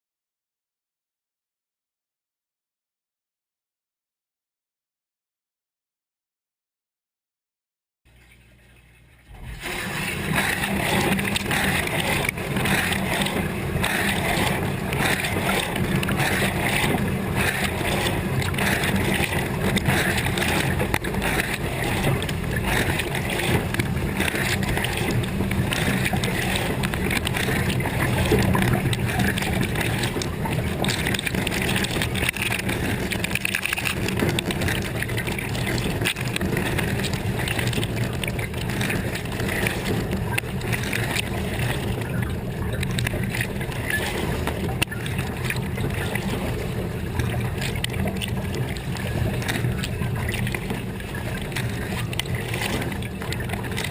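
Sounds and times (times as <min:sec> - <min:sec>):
dishwasher pump running: 0:08.1 - 0:53.9
water splashing against housing: 0:09.2 - 0:53.9.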